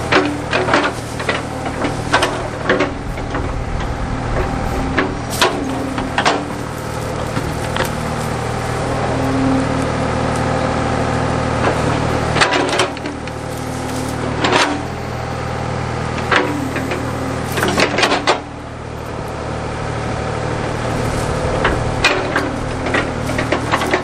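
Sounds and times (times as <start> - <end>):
backhoe engine running: 0.0 - 24.0.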